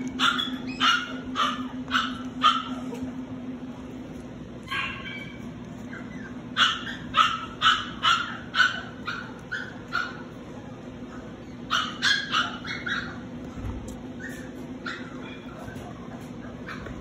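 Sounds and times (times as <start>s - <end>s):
puppy yipping and barking: 0.0s - 3.2s, 4.6s - 17.0s.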